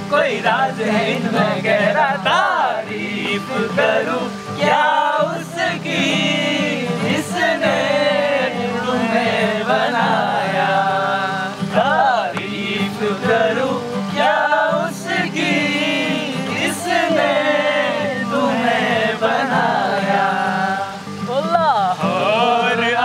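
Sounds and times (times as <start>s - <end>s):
men singing in unison: 0.0s - 21.3s, 21.9s - 23.0s
guitar: 0.0s - 23.0s.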